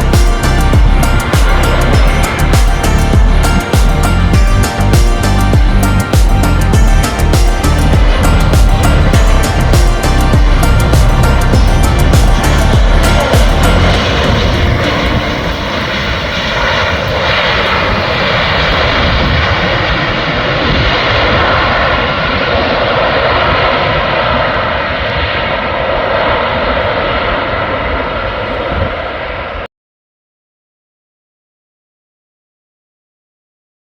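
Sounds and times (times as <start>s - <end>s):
jet engines running: 0.0s - 29.7s.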